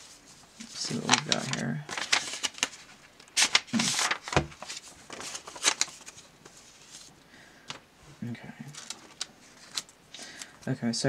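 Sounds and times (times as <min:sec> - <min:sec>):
paper envelope rustling: 0:00.0 - 0:07.8, 0:08.7 - 0:10.6.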